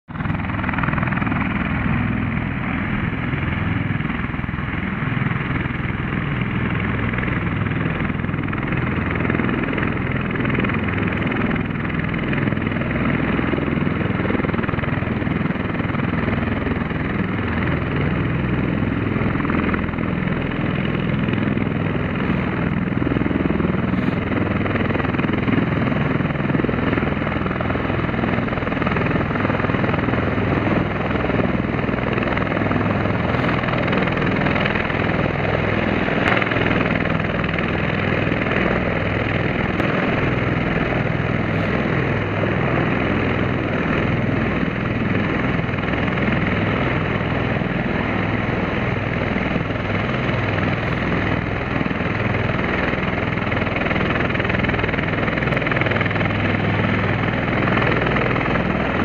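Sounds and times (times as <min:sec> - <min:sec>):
aircraft engines droning: 0:00.1 - 0:59.0.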